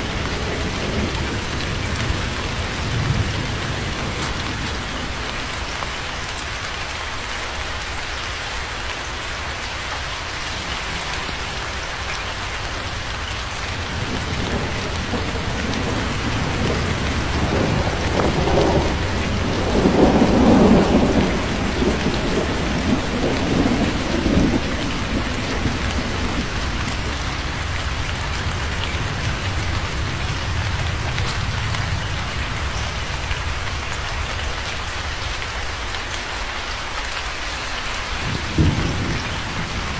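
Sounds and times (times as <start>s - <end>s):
thunder rumbling: 0.0s - 6.3s, 10.4s - 35.7s, 38.2s - 39.9s
steady rain falling: 0.0s - 39.9s.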